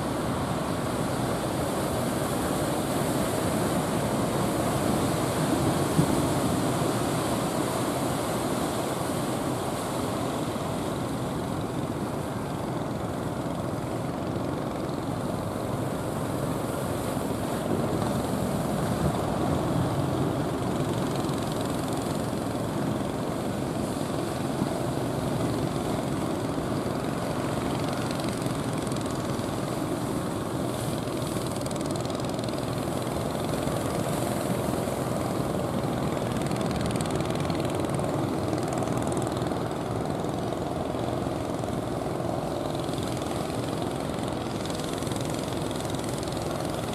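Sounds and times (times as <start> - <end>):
boat diesel engines running: 0.0 - 46.9
rough sea washing at bows: 0.0 - 46.9.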